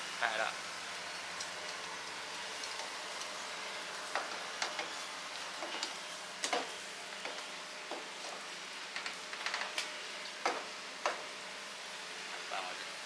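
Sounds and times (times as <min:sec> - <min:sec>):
meat sizzling over charcoal: 0:00.0 - 0:13.0.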